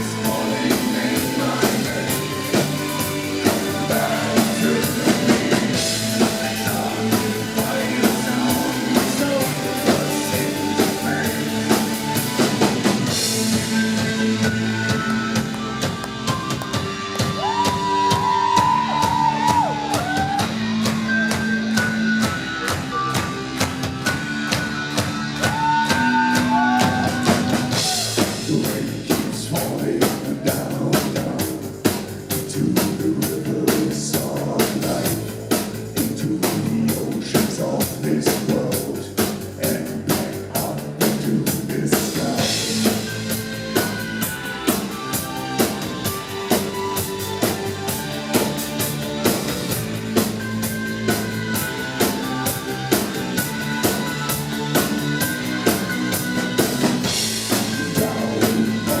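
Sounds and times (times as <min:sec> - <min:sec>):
driving drum beat: 0:00.0 - 0:59.0
live band playing: 0:00.0 - 0:59.0.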